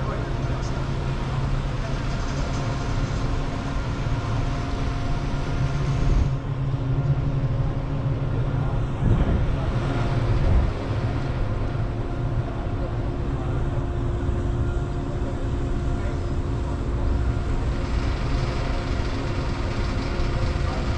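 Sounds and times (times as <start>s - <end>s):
ferry machinery hum: 0.0s - 20.9s.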